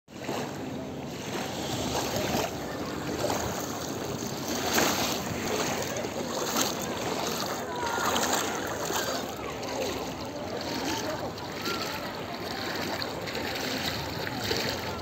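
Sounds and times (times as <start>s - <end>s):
feet splashing through shallow water: 0.1s - 15.0s
small waves washing: 0.1s - 15.0s.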